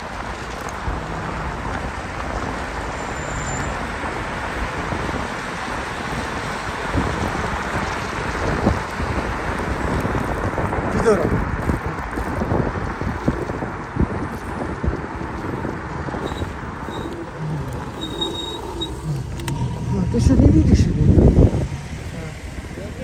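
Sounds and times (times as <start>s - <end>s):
road noise: 0.0s - 23.0s
wind buffeting microphone: 3.6s - 23.0s.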